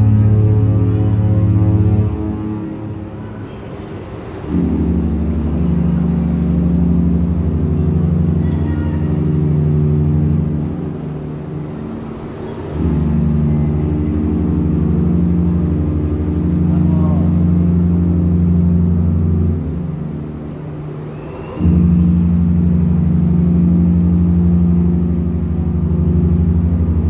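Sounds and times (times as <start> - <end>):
ship horn deep blasts: 0.0 - 27.0.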